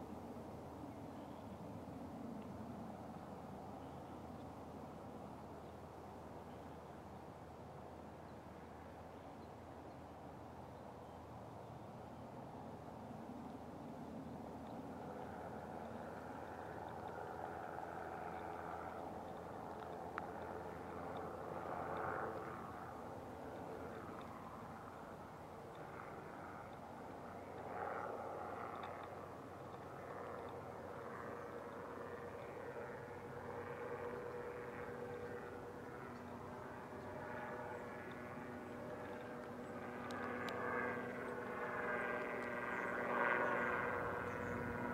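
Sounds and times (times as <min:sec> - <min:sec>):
distant helicopter drone: 0:00.0 - 0:44.9.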